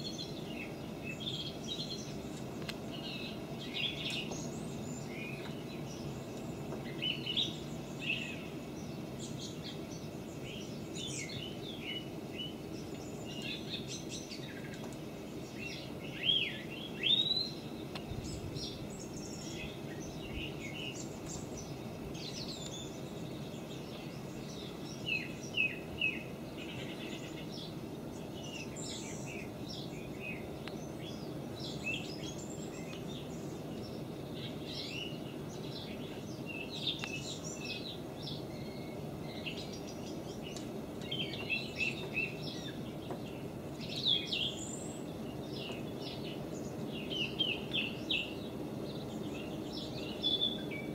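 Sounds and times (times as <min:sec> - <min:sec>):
birds chirping and calling: 0:00.0 - 0:50.9
steady low background hum: 0:00.0 - 0:50.9.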